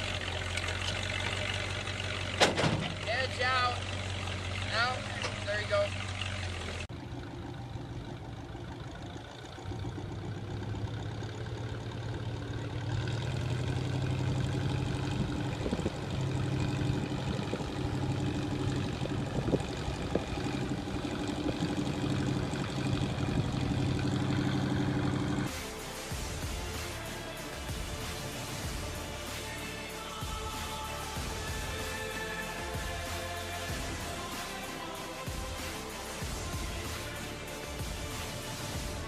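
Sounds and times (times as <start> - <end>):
heavy machine engine running: 0.0 - 39.0.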